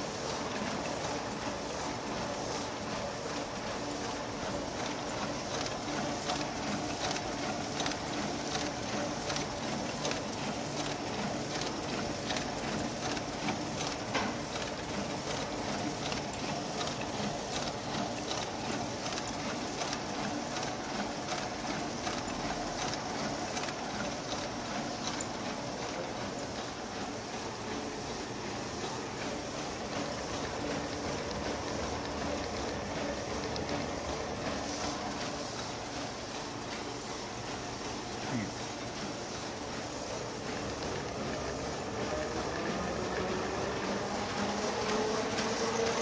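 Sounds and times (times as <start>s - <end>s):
printing press clattering: 0.0s - 46.0s.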